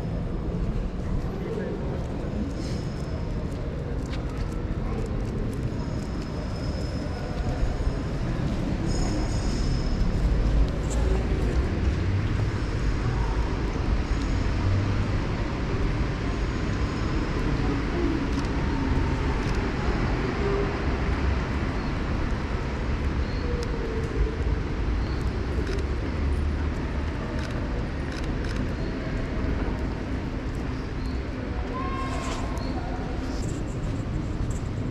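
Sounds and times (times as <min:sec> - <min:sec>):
traffic rumble: 0:00.0 - 0:34.9.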